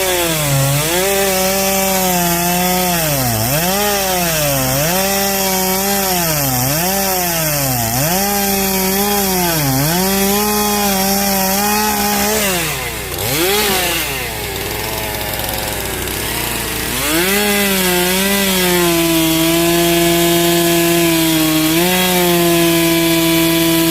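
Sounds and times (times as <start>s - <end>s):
chainsaw cutting through log: 0.0s - 23.9s.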